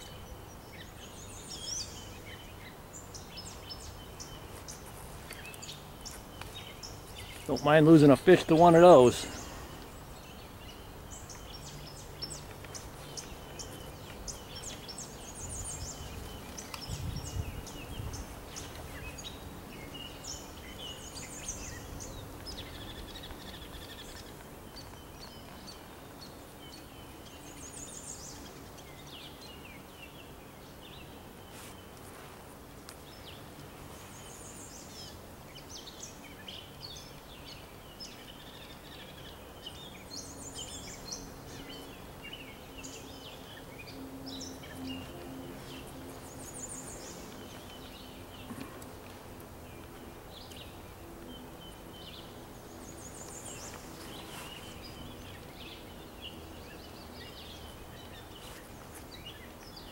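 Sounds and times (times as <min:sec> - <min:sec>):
background hiss: 0:00.0 - 0:59.9
small birds singing: 0:00.0 - 0:59.9.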